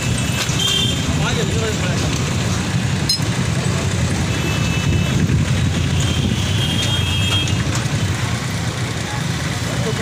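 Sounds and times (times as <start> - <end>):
low vehicle rumble: 0.0 - 10.0.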